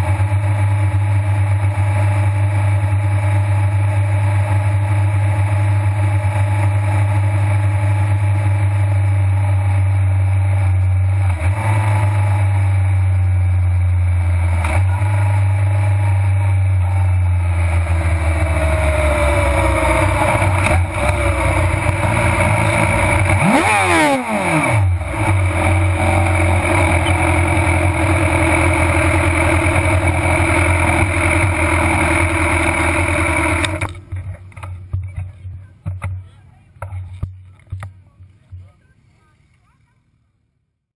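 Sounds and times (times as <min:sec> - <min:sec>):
motorcycle engine at low revs: 0:00.0 - 0:39.0.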